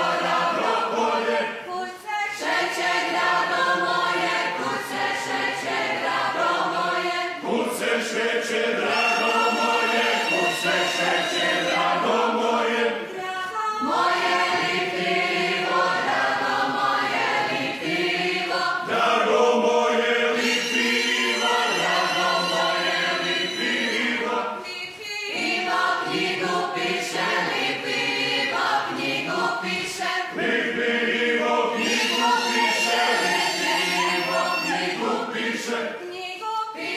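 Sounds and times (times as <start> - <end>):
men and women singing folk song: 0.0 - 36.9.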